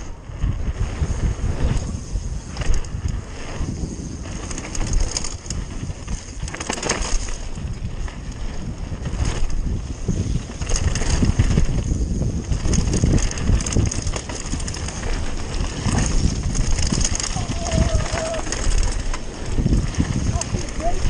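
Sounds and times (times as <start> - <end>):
wind buffeting microphone: 0.0 - 21.0
bike tyres crunching on gravel: 0.5 - 21.0
bike clattering over bumps: 1.7 - 21.0.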